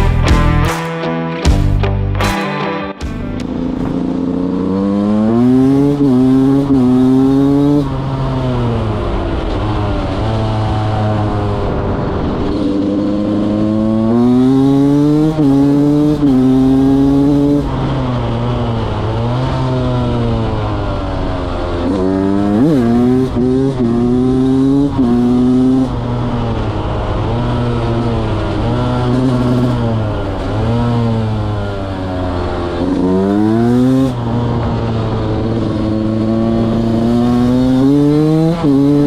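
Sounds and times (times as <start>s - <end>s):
two-stroke motorcycle engine: 3.4s - 39.0s.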